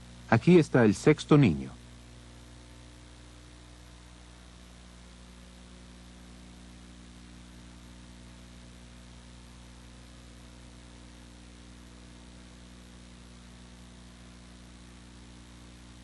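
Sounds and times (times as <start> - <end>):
constant hiss: 0.0 - 16.0
electrical hum: 0.0 - 16.0.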